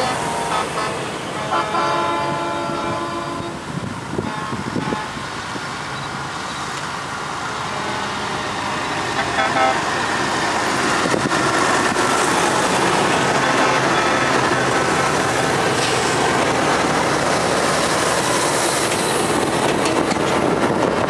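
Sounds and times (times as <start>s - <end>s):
heavy trucks driving past: 0.0s - 21.0s.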